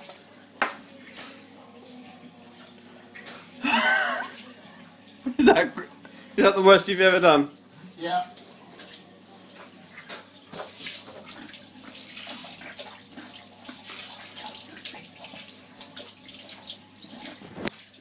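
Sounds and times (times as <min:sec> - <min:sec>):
water running from a tap: 0:00.0 - 0:18.0.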